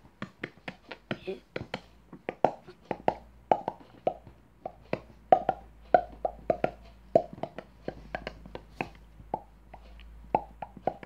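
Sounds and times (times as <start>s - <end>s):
mouth pops and clicks: 0.2s - 11.0s.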